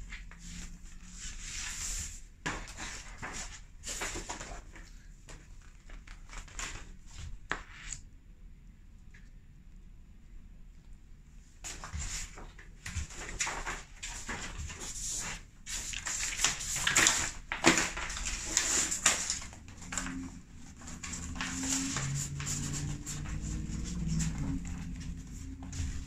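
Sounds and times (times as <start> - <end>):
paper and packaging crinkling: 0.1 - 7.4, 11.7 - 26.0.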